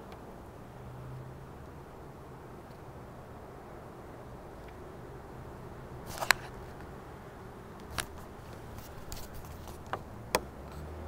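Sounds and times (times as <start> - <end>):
faint low background noise: 0.0 - 11.0.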